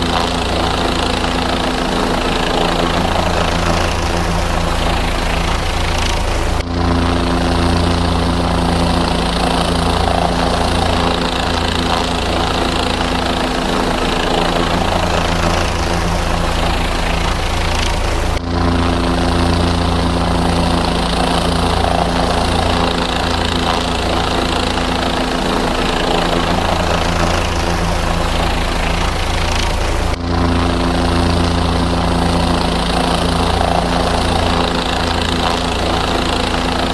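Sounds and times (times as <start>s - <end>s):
helicopter engine and rotors: 0.0s - 36.9s.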